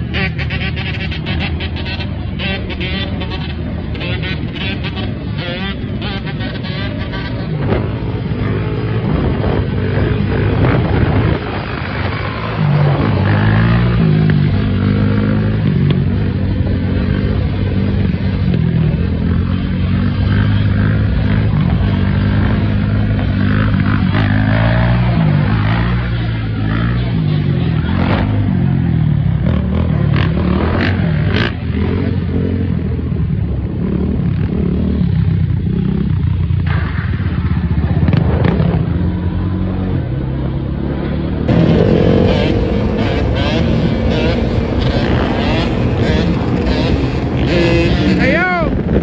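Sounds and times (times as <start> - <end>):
off-road engines revving: 0.0 - 49.0.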